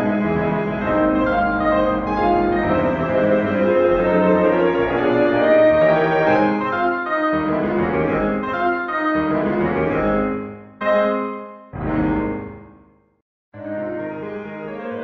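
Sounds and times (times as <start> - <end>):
loud piano chord: 0.0 - 13.0
slow piano music: 0.0 - 13.0.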